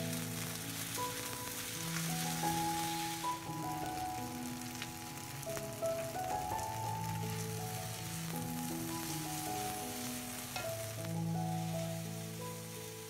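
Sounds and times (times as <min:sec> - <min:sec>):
food sizzling in a wok: 0:00.0 - 0:13.0
slow background music: 0:00.0 - 0:13.0.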